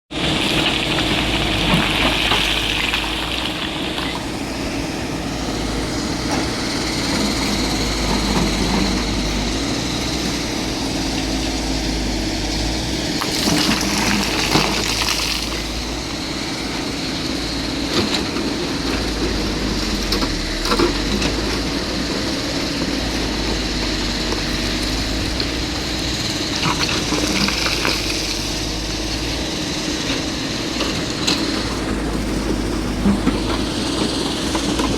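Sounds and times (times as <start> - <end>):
heavy machine engine running: 0.1 - 34.9.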